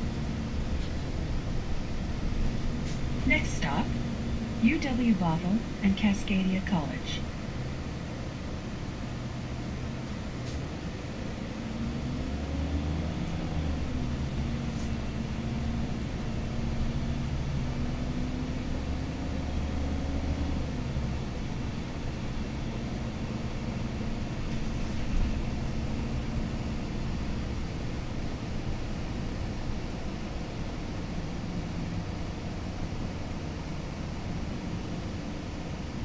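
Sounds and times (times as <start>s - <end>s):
bus diesel engine accelerating: 0.0s - 36.0s.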